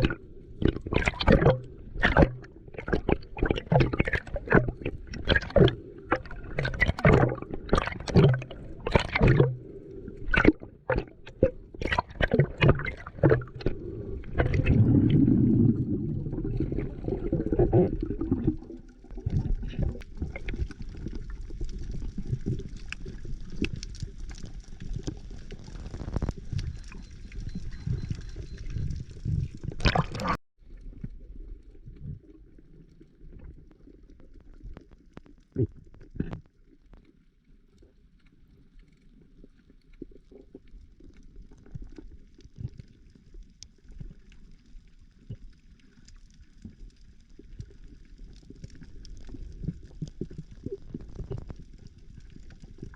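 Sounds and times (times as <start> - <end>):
water sloshing and gurgling: 0.0 - 52.9.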